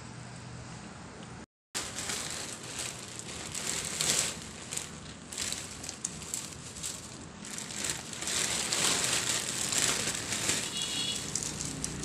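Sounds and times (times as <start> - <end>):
dry noodles crackling and crunching: 1.8 - 12.0.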